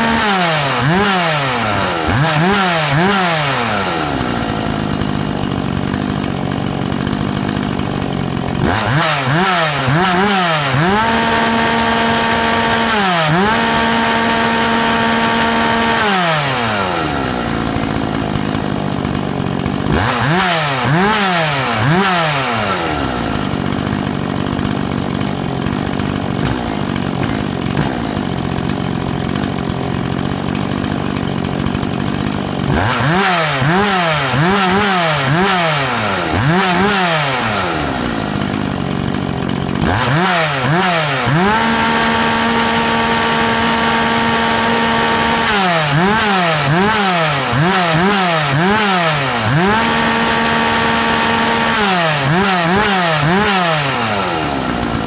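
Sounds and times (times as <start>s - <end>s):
chainsaw engine revving and idling: 0.0s - 55.0s.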